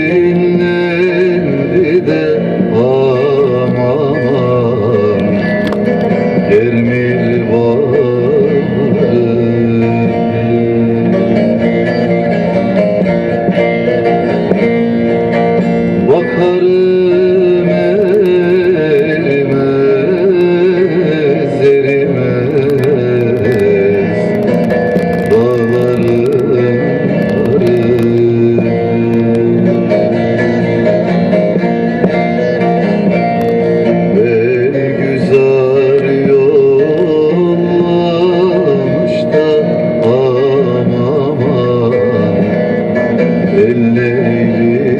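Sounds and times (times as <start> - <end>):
plucked string melody: 0.0 - 44.9
sustained notes: 0.0 - 44.9.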